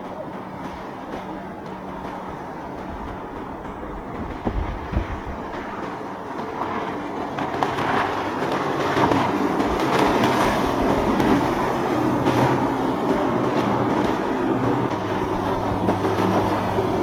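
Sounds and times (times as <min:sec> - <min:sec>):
motorboat engines running: 0:00.0 - 0:17.0
steady rushing noise: 0:00.0 - 0:17.0.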